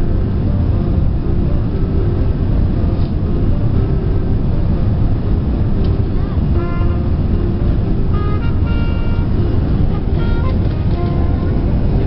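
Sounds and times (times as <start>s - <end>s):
airplane low rumble: 0.0s - 12.0s.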